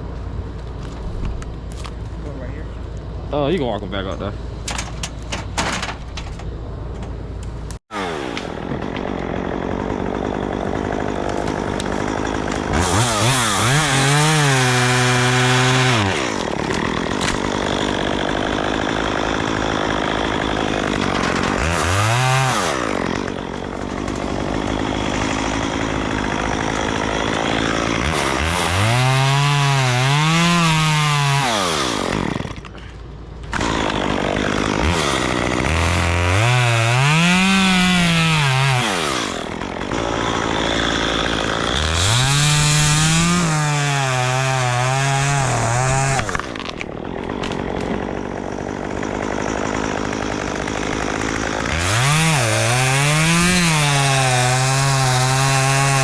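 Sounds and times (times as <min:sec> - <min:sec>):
chainsaw revving: 0:07.9 - 0:32.8, 0:33.4 - 0:56.0.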